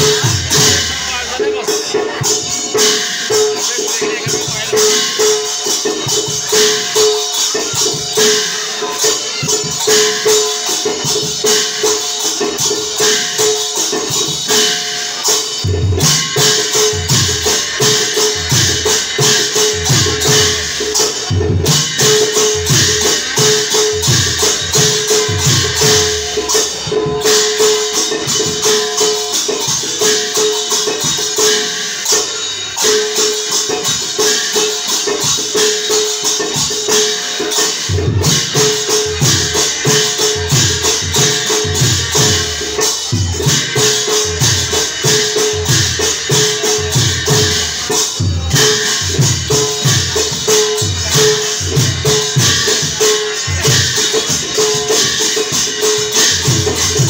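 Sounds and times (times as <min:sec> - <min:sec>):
metallic cymbal clashes: 0:00.0 - 0:57.0.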